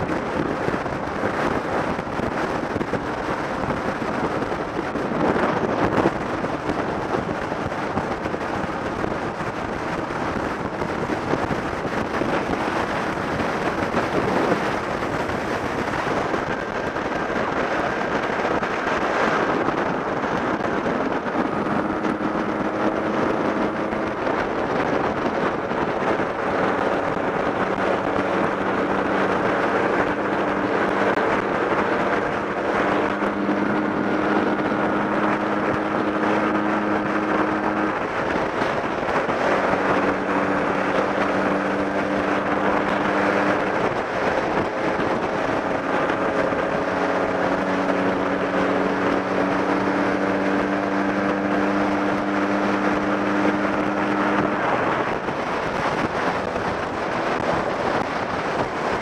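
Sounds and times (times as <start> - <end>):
scooter engine hum: 0.0 - 59.0
wind rushing over microphone: 0.0 - 59.0.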